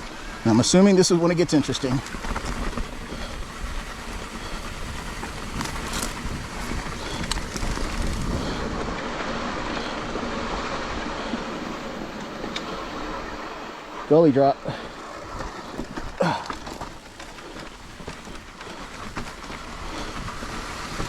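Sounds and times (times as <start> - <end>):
bike tyres rumbling on dirt: 0.0 - 21.0
bike clattering over bumps: 1.6 - 21.0
wind on microphone: 1.9 - 13.4, 15.2 - 21.0.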